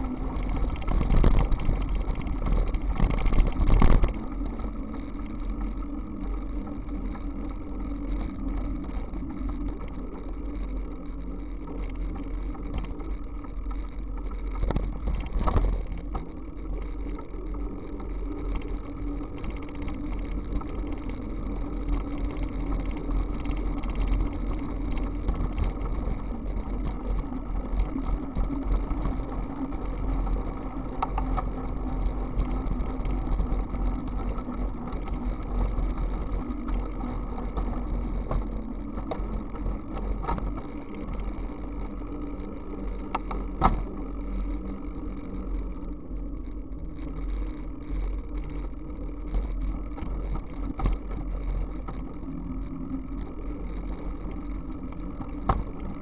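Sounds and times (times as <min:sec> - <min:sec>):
bicycle tyres rolling on asphalt: 0:00.0 - 0:56.0
wind rumble on microphone: 0:00.0 - 0:56.0.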